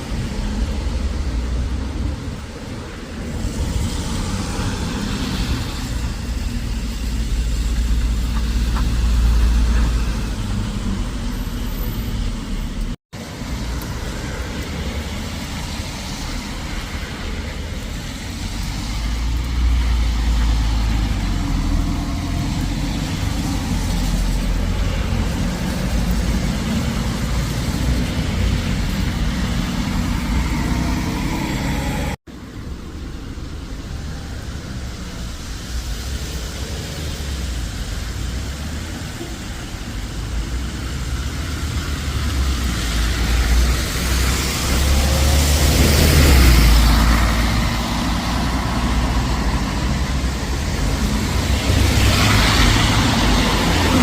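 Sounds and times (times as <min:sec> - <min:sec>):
deep traffic rumble: 0:00.0 - 0:54.0
vehicles passing: 0:00.0 - 0:54.0.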